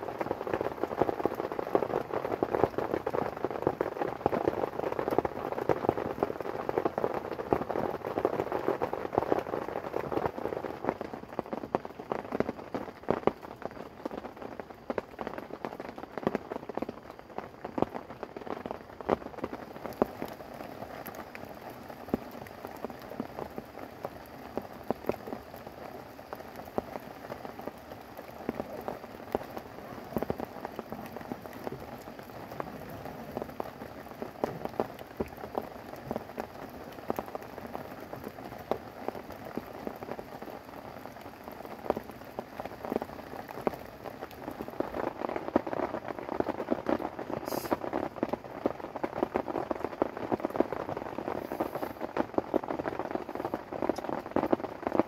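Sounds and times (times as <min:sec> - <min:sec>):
rain on a tent: 0:00.0 - 0:55.0.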